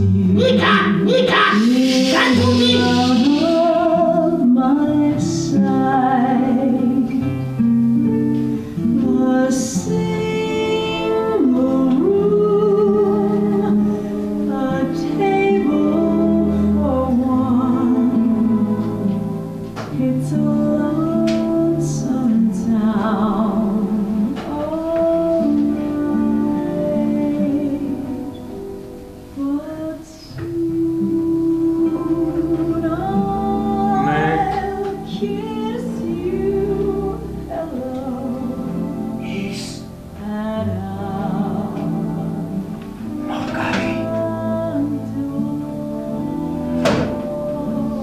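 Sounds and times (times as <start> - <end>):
person singing: 0.0 - 7.4, 8.8 - 28.5, 29.4 - 48.0
plucked guitar: 0.0 - 48.0.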